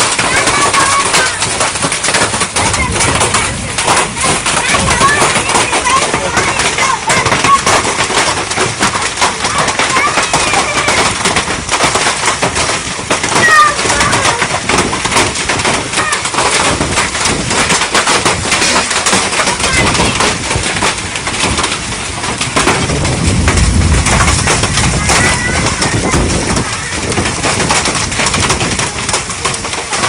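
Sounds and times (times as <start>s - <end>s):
hailstones clattering: 0.0s - 30.0s.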